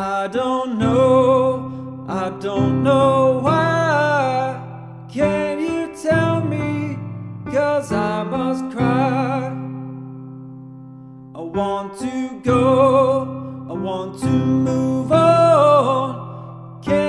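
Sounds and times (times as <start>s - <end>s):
person singing: 0.0s - 10.1s, 11.4s - 17.0s.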